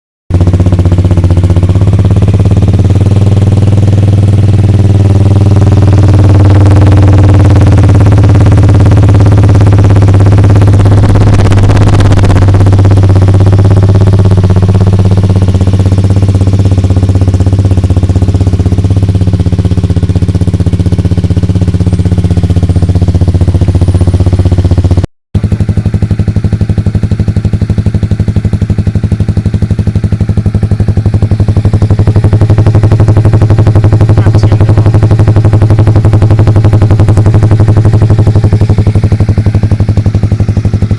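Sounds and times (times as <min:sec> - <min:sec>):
motorcycle engine running: 0:00.3 - 0:40.9.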